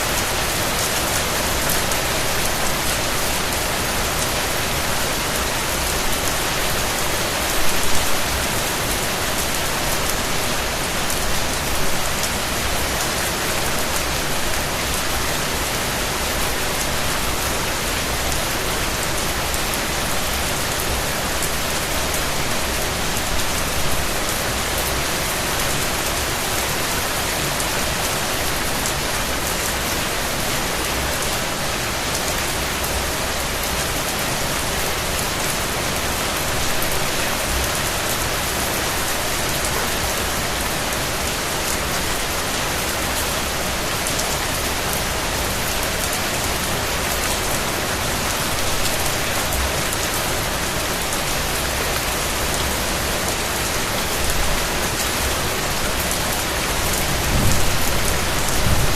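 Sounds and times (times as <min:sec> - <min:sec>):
rain falling on a surface: 0:00.0 - 0:58.9.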